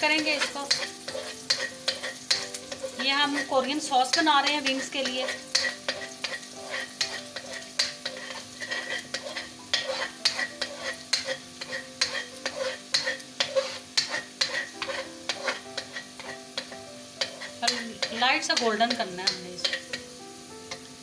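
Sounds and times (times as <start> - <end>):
garlic sizzling in oil: 0.0 - 21.0
spatula scraping a wok: 0.0 - 21.0.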